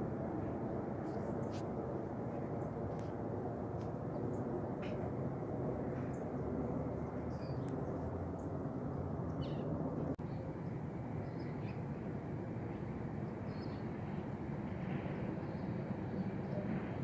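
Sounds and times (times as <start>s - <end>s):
distant jet airliner rumble: 0.0s - 17.0s.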